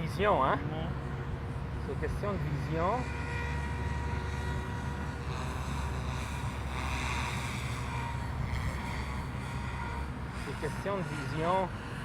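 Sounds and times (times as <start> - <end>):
rc helicopter motor whine: 0.0 - 12.0
wind buffeting microphone: 0.0 - 12.0.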